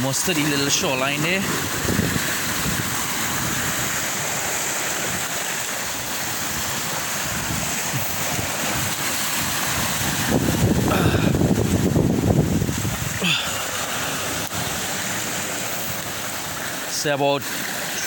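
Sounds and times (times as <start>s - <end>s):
surf breaking on rocks: 0.0s - 18.0s
wind buffeting microphone: 1.2s - 16.7s.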